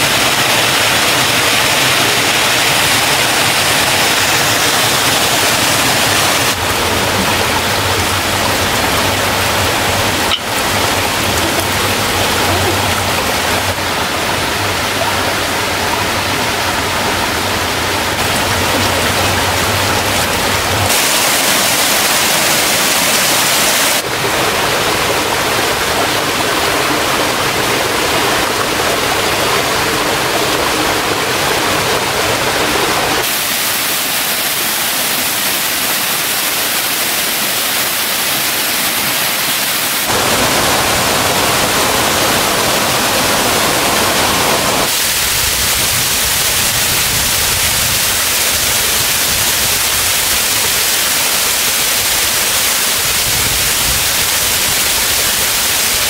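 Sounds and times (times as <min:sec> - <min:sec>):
rushing stream and waterfall: 0:00.0 - 0:56.0.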